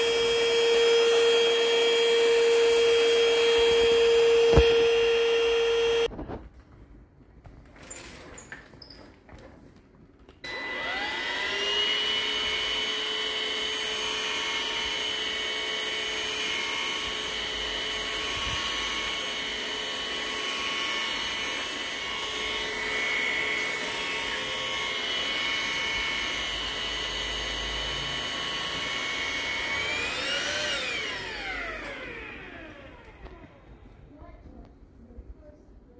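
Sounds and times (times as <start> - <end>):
stick vacuum motor whine: 0.0 - 6.1, 10.4 - 34.1.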